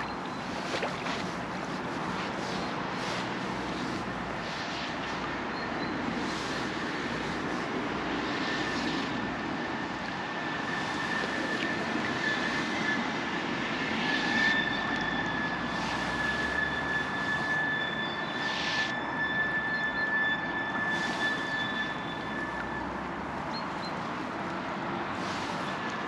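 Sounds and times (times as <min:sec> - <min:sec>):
distant aircraft engine drone: 0:00.0 - 0:26.0
high whine: 0:03.4 - 0:26.0.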